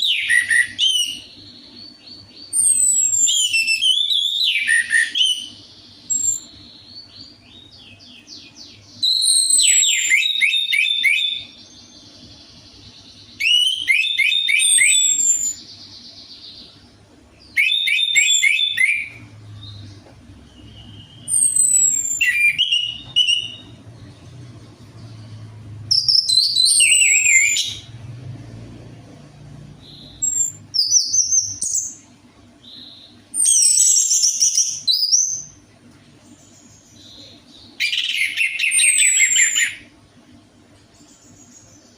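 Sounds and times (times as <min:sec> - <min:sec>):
thrush singing whistled trills: 0:00.0 - 0:28.7, 0:29.6 - 0:35.6, 0:36.4 - 0:40.0.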